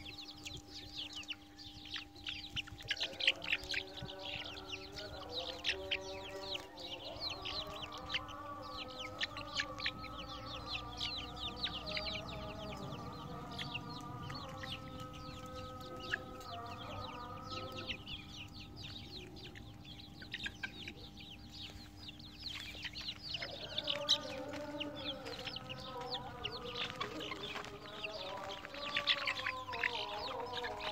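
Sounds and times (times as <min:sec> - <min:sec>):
chicks cheeping and clucking: 0:00.0 - 0:30.9
low shifting sustained notes: 0:00.0 - 0:30.9.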